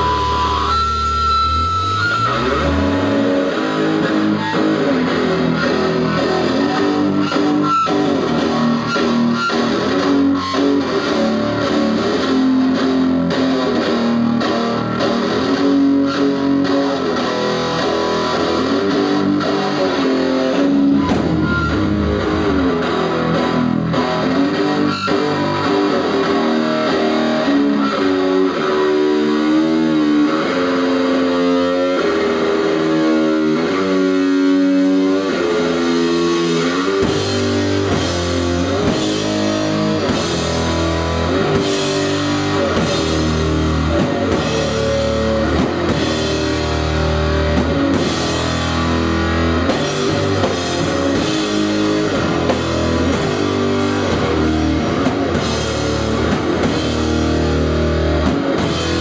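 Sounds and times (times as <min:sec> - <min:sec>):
bass guitar: 0:00.0 - 0:59.0
drums: 0:00.0 - 0:59.0
electric guitar: 0:00.0 - 0:59.0.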